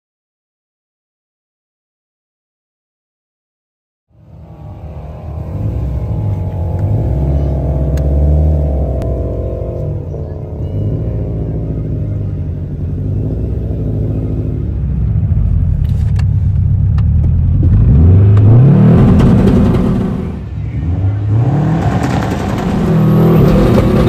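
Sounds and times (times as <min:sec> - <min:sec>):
car engine accelerating hard: 0:04.1 - 0:24.0.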